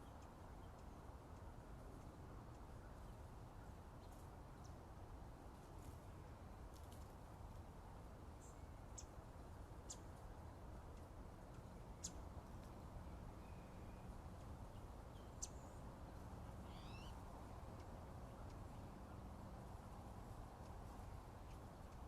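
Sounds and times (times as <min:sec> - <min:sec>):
low steady background hum: 0:00.0 - 0:22.0.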